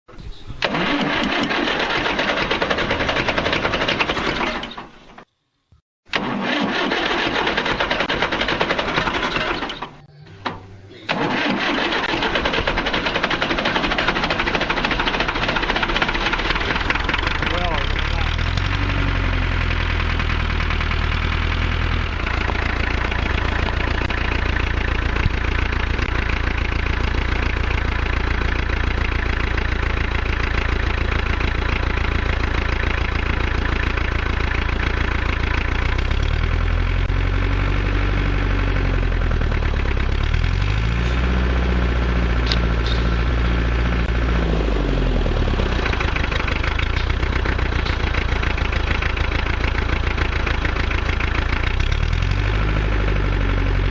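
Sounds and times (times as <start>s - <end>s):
tractor diesel engine running: 0.1s - 5.3s, 6.1s - 53.9s.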